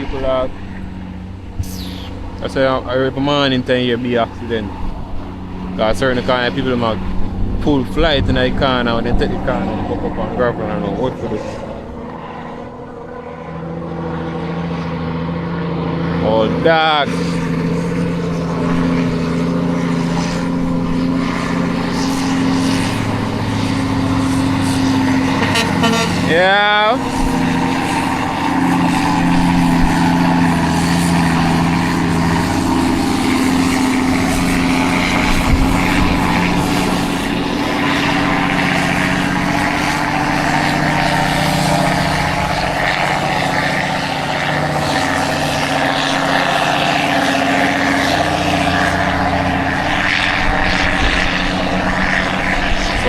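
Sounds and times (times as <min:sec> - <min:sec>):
truck diesel engine droning: 0:00.0 - 0:53.0.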